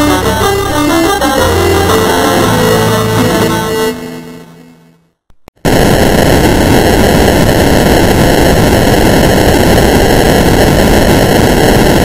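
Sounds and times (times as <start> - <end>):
harsh static noise: 0.0 - 12.0.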